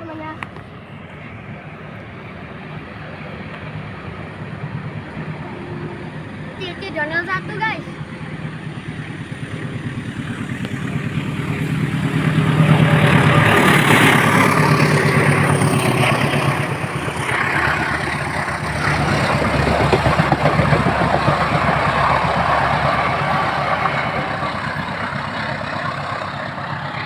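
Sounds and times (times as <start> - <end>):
diesel locomotive engine drone: 0.0 - 27.0
train wheels clattering on rails: 0.2 - 27.0.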